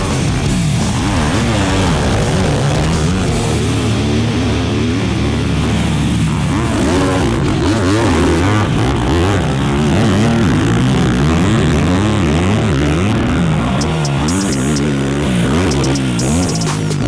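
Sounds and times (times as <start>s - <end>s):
racing engine revving: 0.0s - 17.0s.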